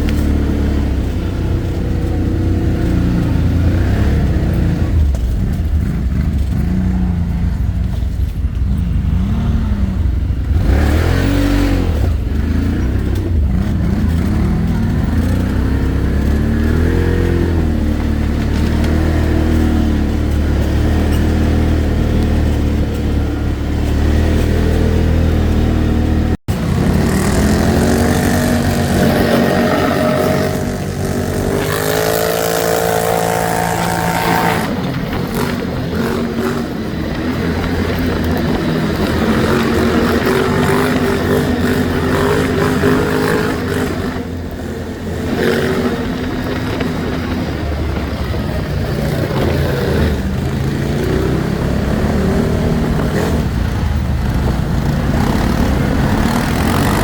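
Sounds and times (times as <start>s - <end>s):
atv engines revving: 0.0s - 57.0s.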